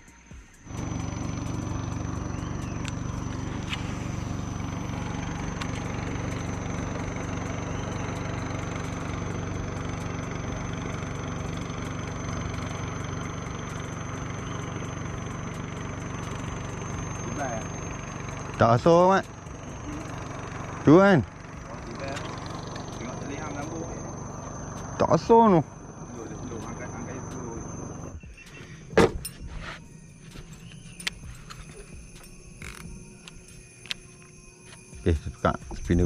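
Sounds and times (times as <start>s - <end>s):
outboard motor droning: 0.0s - 36.0s.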